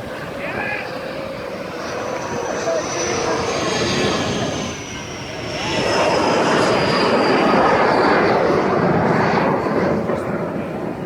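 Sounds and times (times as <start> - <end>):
high turbine whine: 0.0 - 11.0
jet engine roar: 0.0 - 11.0.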